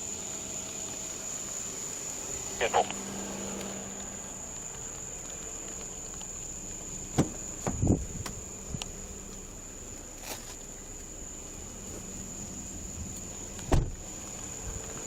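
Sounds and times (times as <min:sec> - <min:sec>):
high-pitched insect buzz: 0:00.0 - 0:15.0.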